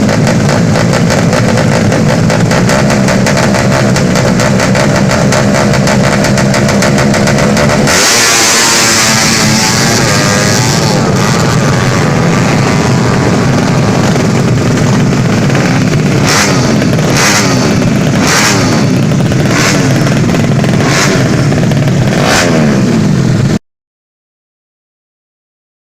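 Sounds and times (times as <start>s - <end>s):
motorcycle engine revving: 0.0s - 23.6s
sharp engine bursts: 0.4s - 23.0s.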